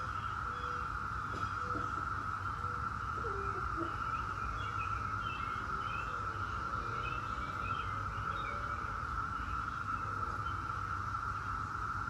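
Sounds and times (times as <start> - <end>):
cicadas humming: 0.0 - 12.0.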